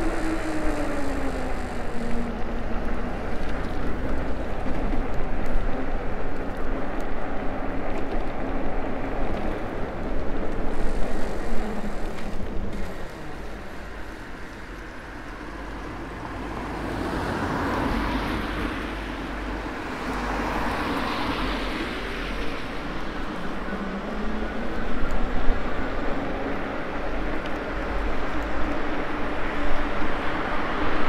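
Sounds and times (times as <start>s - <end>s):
tyres rolling on road: 0.0s - 31.0s.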